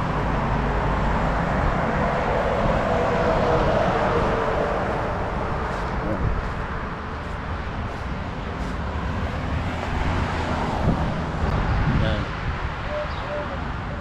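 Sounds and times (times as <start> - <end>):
road traffic noise: 0.0 - 14.0
vehicle whine passing: 0.0 - 14.0.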